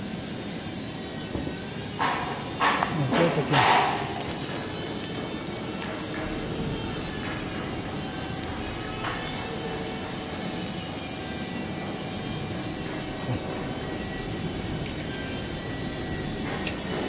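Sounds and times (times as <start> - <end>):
factory machinery whirring: 0.0 - 17.0.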